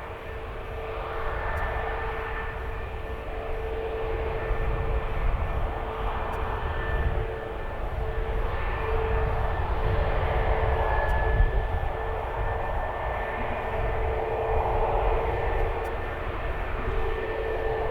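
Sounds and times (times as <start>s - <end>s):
jet engines whining: 0.0s - 17.9s.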